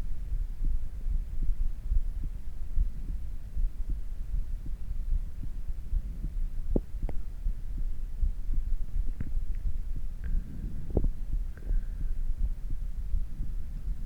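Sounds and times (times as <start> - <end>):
heartbeat thumps: 0.0 - 14.0.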